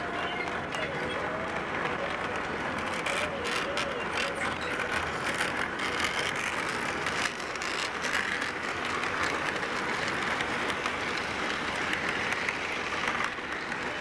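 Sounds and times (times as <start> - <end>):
model train rattling whirr: 0.0 - 14.0.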